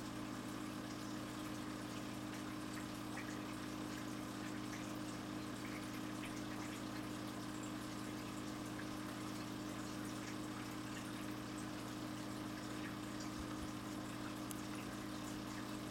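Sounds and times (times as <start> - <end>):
air bubbles trickling in water: 0.0 - 15.9
aquarium pump humming: 0.0 - 15.9.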